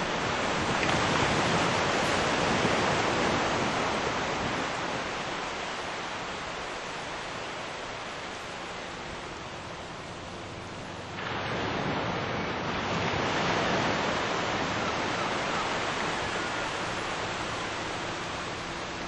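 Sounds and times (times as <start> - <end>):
open water rushing: 0.0 - 19.0.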